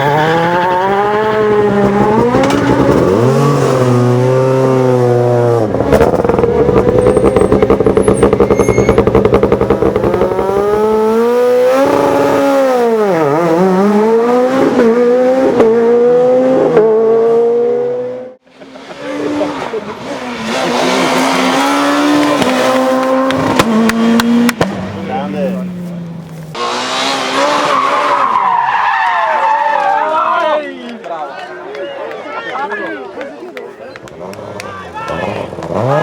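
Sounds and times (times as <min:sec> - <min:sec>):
rally car engines revving: 0:00.0 - 0:29.4, 0:34.0 - 0:36.0.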